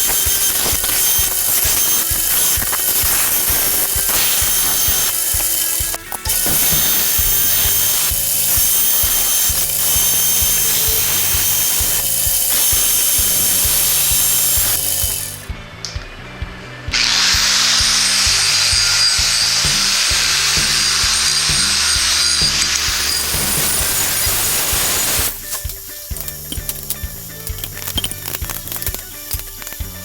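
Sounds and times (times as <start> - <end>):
power tool whirring on metal: 0.0 - 15.5, 17.0 - 30.0
background music with bass: 0.0 - 30.0.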